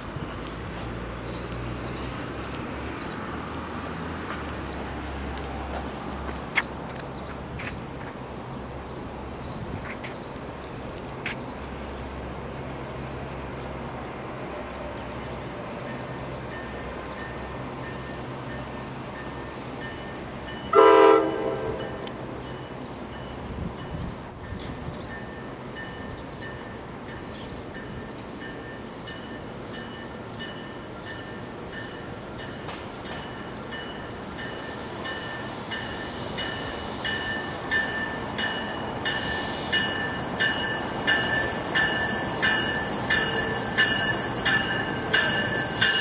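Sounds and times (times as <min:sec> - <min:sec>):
train low rumble: 0:00.0 - 0:46.0.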